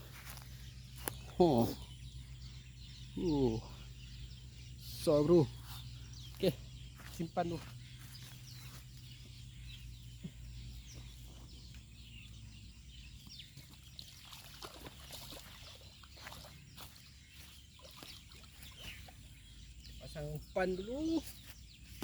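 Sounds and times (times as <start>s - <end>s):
faint bird chirps and clucks: 0.0s - 22.0s.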